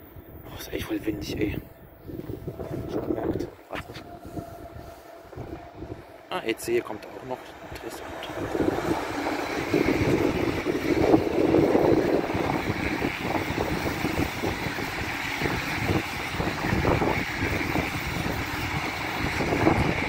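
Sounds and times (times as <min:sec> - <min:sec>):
high-speed train rushing rumble: 0:00.0 - 0:20.0
wind buffeting microphone: 0:00.0 - 0:20.0.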